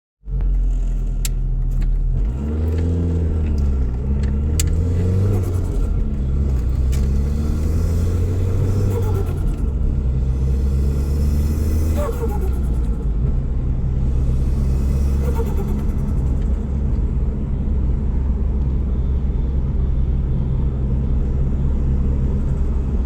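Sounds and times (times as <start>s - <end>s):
car engine revving: 0.3s - 23.0s.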